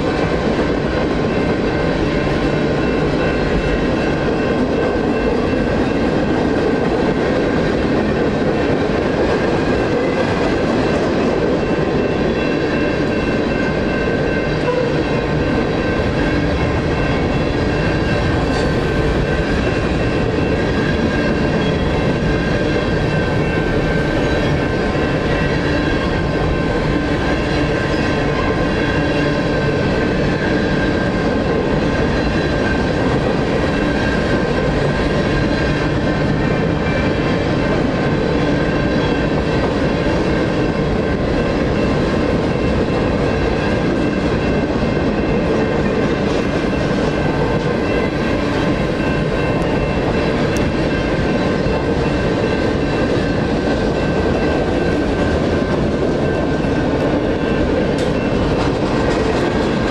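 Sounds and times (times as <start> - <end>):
crossing bells ringing: 0.0 - 59.9
freight train wheels on rail: 0.0 - 59.9.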